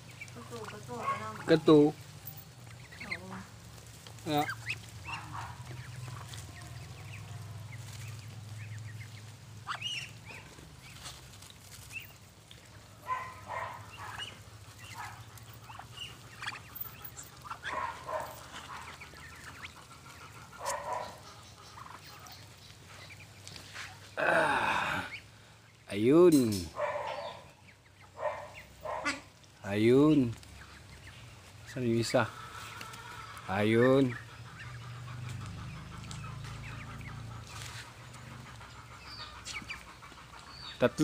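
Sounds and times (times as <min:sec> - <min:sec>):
ducks calling: 0:00.0 - 0:41.0.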